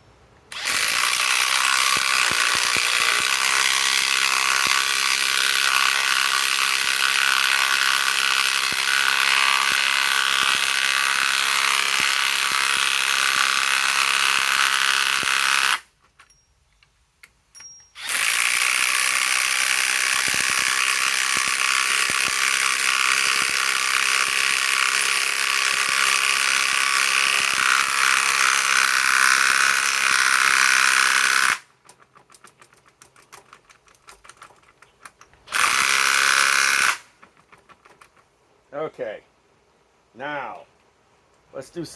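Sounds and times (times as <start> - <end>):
impact wrench hammering: 0.5 - 15.9, 17.6 - 34.5, 35.1 - 38.2.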